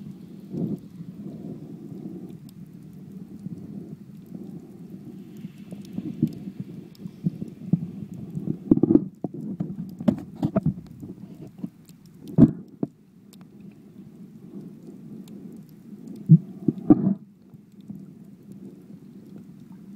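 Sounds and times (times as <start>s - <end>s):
low underwater rumble: 0.0s - 19.9s.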